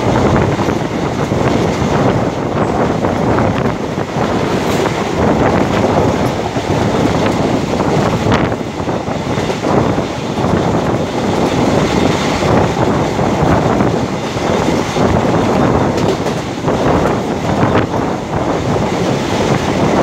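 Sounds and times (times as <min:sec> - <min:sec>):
train wheels on rails: 0:00.0 - 0:20.0
wind buffeting microphone: 0:00.0 - 0:20.0.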